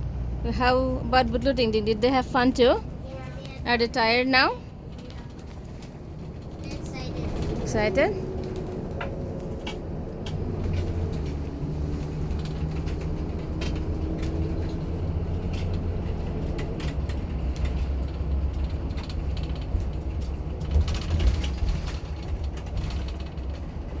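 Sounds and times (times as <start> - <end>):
moving vehicle rumble: 0.0 - 24.0
rattles creaks and clicks: 1.2 - 24.0.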